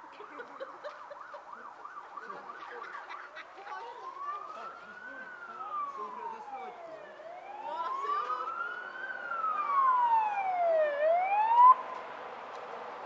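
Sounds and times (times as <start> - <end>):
fire engine siren wailing: 0.0 - 12.2
oncoming vehicle noise: 0.0 - 13.0.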